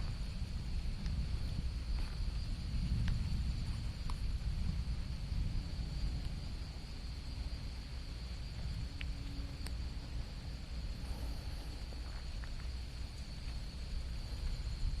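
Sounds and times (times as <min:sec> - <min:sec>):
insect chorus drone: 0:00.0 - 0:15.0
low rumble: 0:00.0 - 0:15.0.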